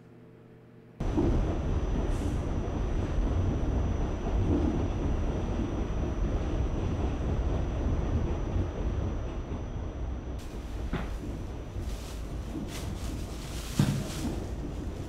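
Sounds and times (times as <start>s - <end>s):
subway train rumbling: 1.0s - 15.0s.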